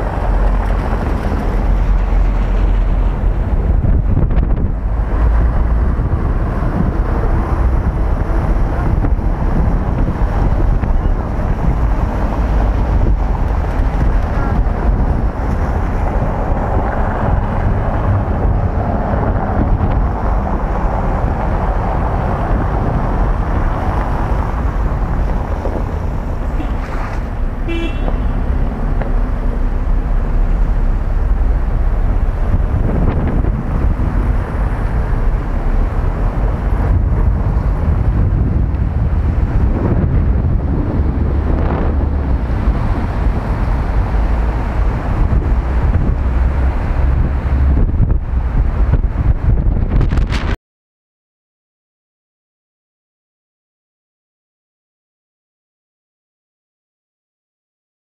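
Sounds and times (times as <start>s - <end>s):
street traffic: 0.0s - 50.6s
wind buffeting microphone: 0.0s - 50.6s.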